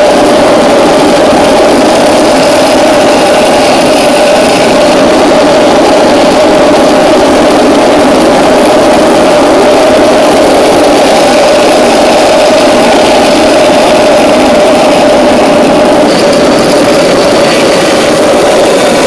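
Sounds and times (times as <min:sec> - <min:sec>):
turbojet engine roaring: 0:00.0 - 0:19.0.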